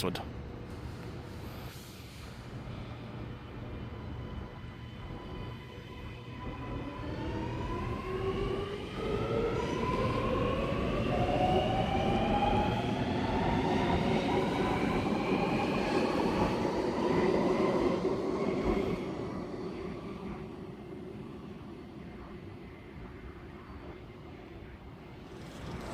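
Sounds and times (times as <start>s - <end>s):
low train rumble: 0.0s - 25.9s
metro train motors whining: 0.4s - 25.9s.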